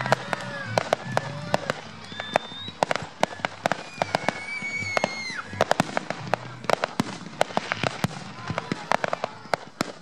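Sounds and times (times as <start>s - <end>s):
firework high whistle: 0.0s - 10.0s
fireworks popping and banging: 0.0s - 10.0s.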